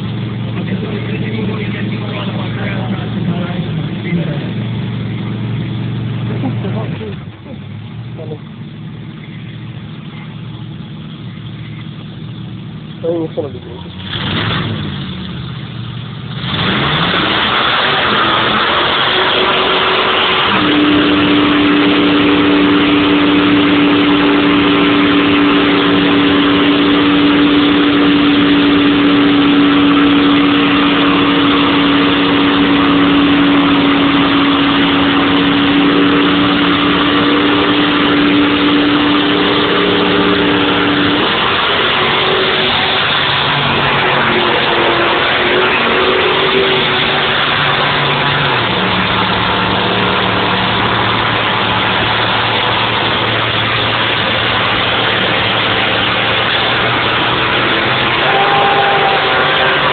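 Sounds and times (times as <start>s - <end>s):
drag car engine revving: 0.0s - 59.9s
spinning tyres roaring: 0.0s - 59.9s.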